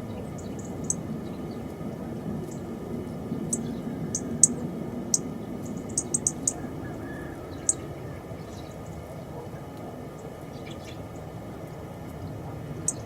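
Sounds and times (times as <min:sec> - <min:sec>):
low background rumble: 0:00.0 - 0:13.0
songbirds chipping: 0:00.0 - 0:13.0.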